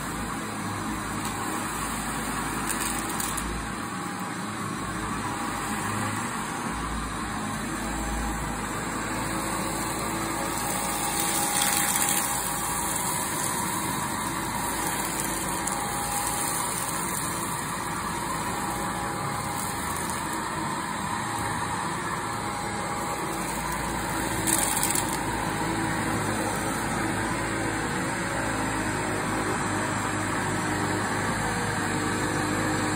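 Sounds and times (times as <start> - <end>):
vacuum cleaner running on carpet: 0.0 - 32.9.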